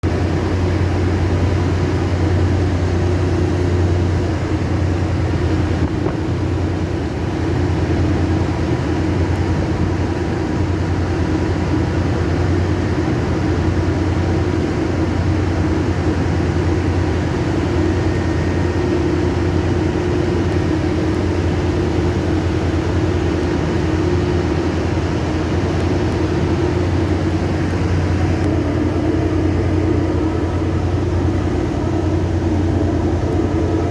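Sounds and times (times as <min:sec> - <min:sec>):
drilling rig low drone: 0:00.0 - 0:33.9.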